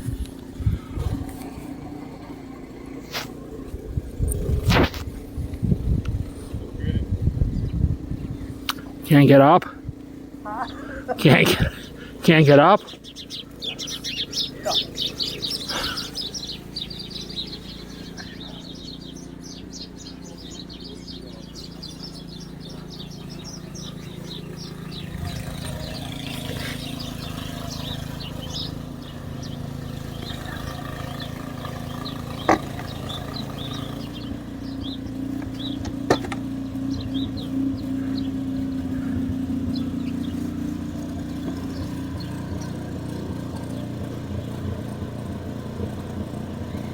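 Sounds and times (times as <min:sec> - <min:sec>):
low engine hum: 0:00.0 - 0:46.9
small birds chirping: 0:00.0 - 0:46.9.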